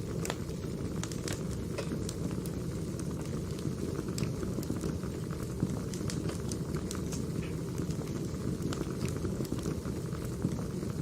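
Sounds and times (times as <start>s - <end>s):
burning logs rumbling: 0.0s - 11.0s
fire crackles and pops: 0.0s - 11.0s.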